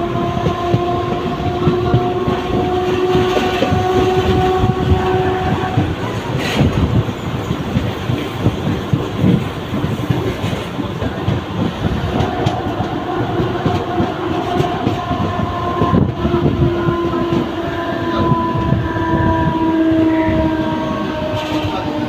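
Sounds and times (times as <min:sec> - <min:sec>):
train clattering on rails: 0:00.0 - 0:22.0.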